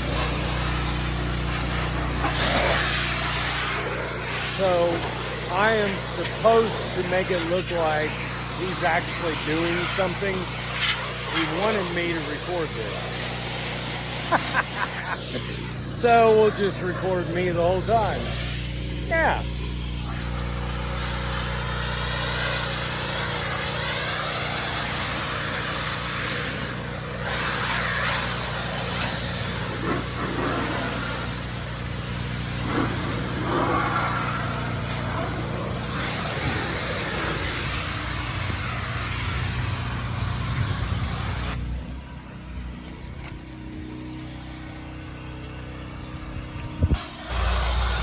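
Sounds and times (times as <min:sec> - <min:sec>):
high-pressure water spray hissing: 0:00.0 - 0:41.7, 0:46.8 - 0:48.0
pressure washer engine running: 0:00.0 - 0:48.0.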